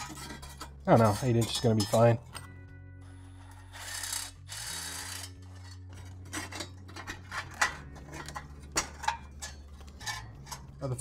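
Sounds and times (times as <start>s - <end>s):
metal band scraping: 0.0s - 2.5s, 3.3s - 11.0s.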